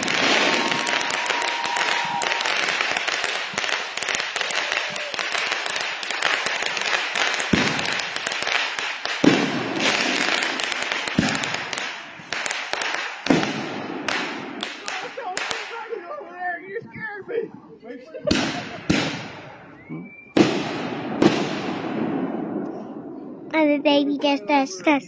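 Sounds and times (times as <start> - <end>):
firework bangs: 0.0 - 16.0, 18.3 - 23.5
fireworks crackling: 0.0 - 17.0, 18.0 - 23.0.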